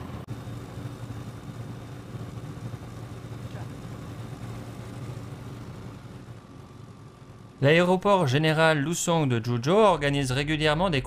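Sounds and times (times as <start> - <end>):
propeller airplane engine humming: 0.0 - 9.0.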